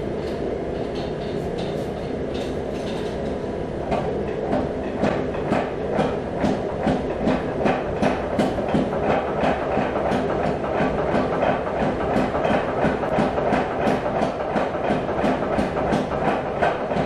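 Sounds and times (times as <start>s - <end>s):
steady machine drone: 0.0s - 17.0s.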